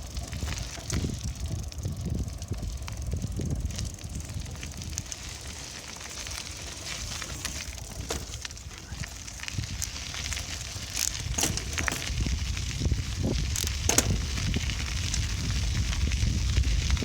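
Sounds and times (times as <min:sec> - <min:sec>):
bicycle clicks and rattles: 0:00.0 - 0:17.0
wind and road rumble: 0:00.0 - 0:17.0.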